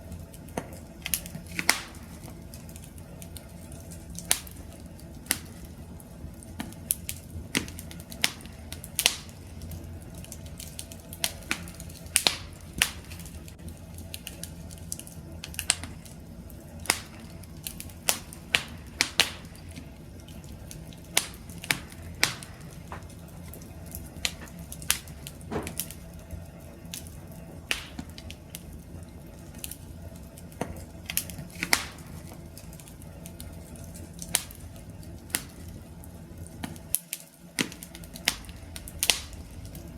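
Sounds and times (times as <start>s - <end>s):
campfire crackling: 0.0s - 39.9s
low rumble of burning fire: 0.0s - 39.9s.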